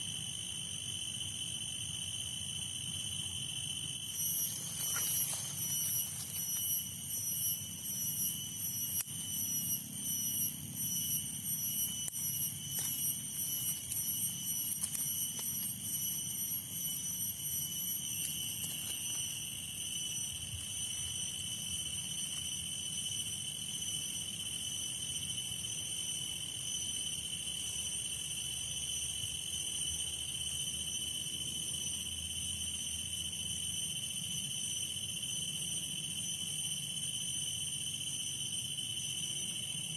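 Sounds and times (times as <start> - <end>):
cicadas calling: 1.6 - 34.0.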